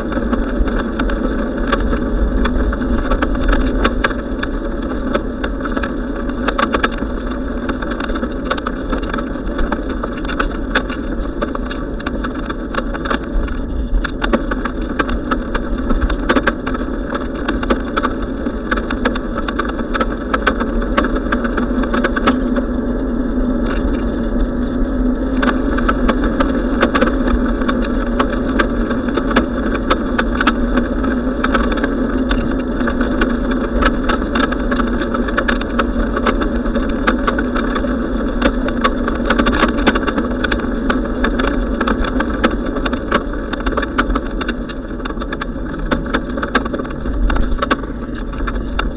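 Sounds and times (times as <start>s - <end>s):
bicycle riding rumble: 0.0s - 48.9s
small clicks and rattles: 0.0s - 48.9s.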